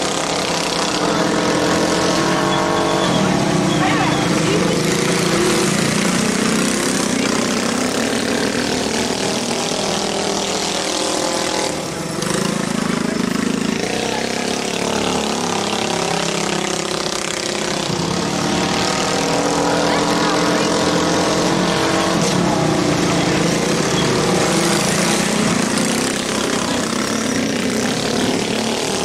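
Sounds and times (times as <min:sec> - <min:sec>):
minibike engines racing: 0:00.0 - 0:29.0.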